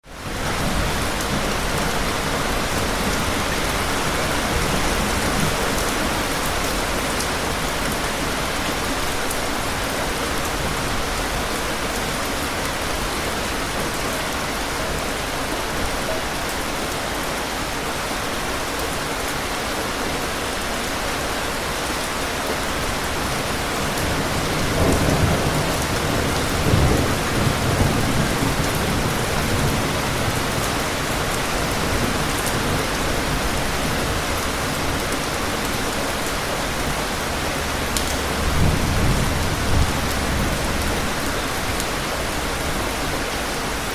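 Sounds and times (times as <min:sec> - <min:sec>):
heavy rain hissing: 0:00.1 - 0:43.9.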